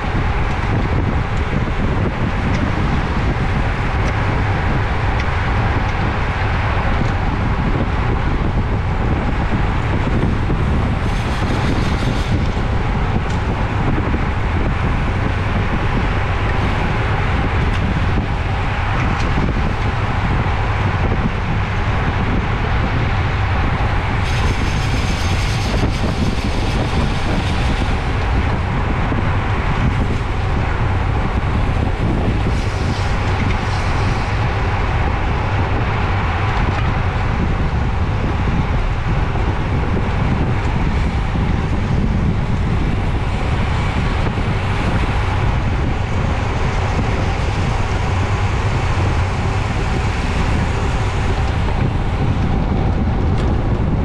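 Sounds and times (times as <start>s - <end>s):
deep road rumble: 0.0s - 54.0s
wind rushing over microphone: 0.0s - 54.0s.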